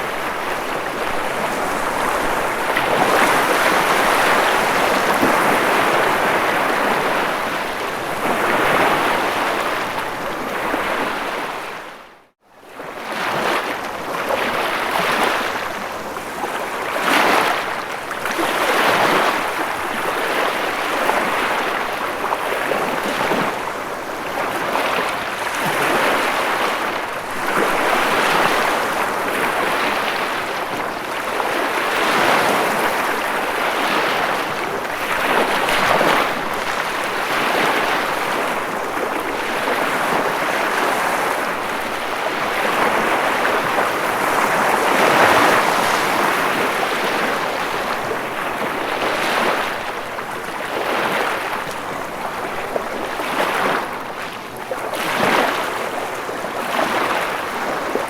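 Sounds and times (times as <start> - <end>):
ocean waves washing onto shore: 0.0 - 12.0, 12.7 - 58.0.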